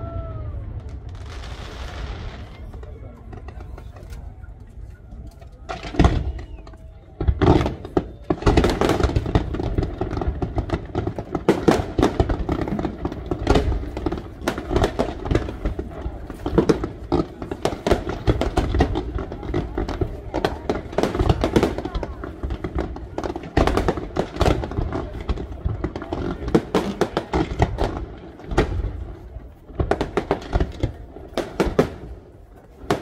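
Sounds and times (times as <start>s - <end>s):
fireworks bursting: 0.0s - 4.2s, 5.7s - 33.0s.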